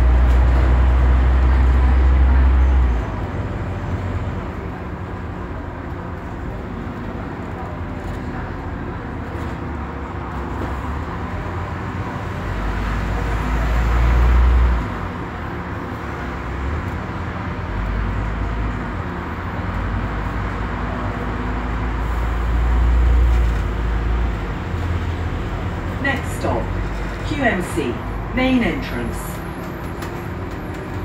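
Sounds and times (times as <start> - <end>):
bus engine rumble: 0.0 - 31.0
road noise: 0.0 - 31.0.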